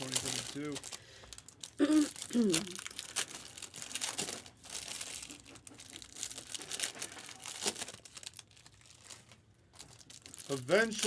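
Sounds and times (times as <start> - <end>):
card pack wrappers crinkling: 0.0 - 11.0.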